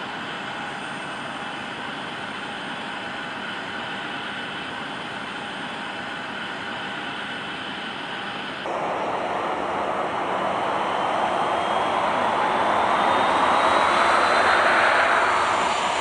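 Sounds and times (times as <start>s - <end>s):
aircraft whine and hum: 0.0s - 16.0s
jet engines of taxiing plane: 0.0s - 16.0s.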